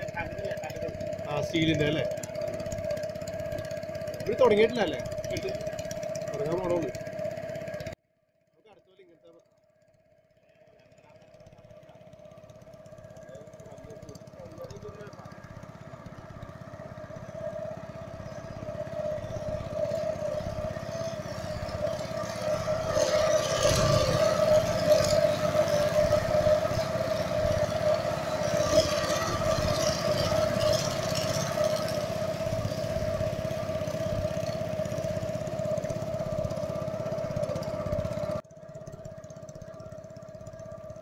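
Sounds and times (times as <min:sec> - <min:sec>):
boat motor rumbling: 0:00.0 - 0:08.0, 0:10.0 - 0:41.0.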